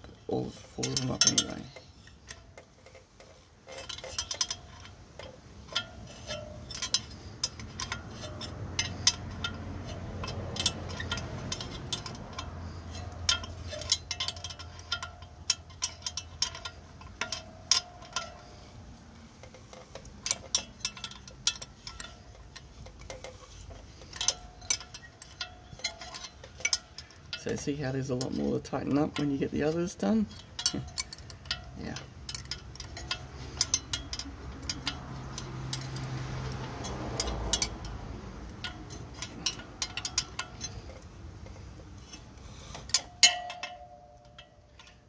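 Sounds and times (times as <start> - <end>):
hand wrench clicking on bolts: 0.0 - 45.0.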